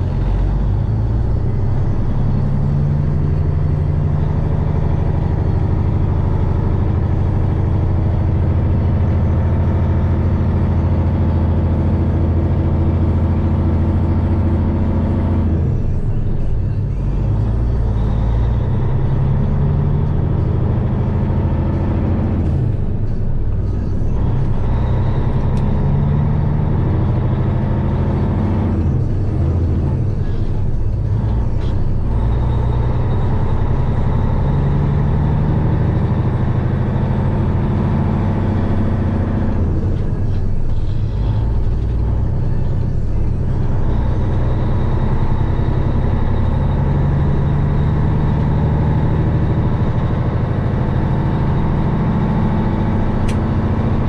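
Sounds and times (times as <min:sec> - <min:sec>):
diesel truck engine drone: 0:00.0 - 0:54.0
road noise: 0:00.0 - 0:54.0.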